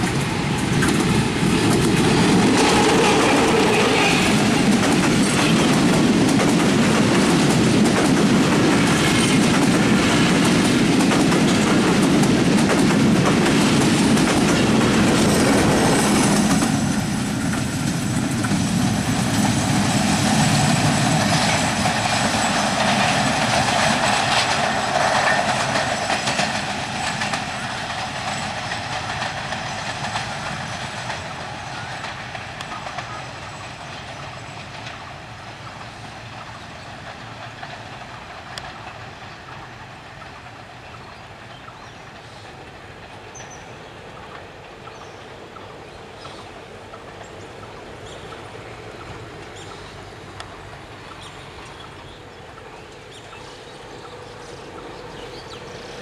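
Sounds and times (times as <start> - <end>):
train wheels clattering past: 0.0 - 56.0.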